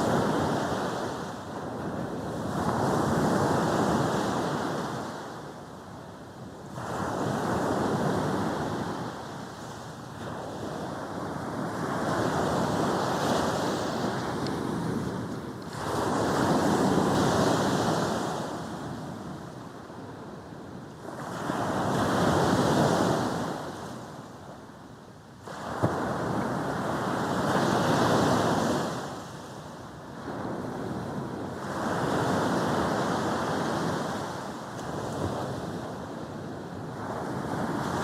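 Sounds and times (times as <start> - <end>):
sea waves breaking on beach: 0.0 - 5.7, 6.5 - 20.2, 25.4 - 38.0.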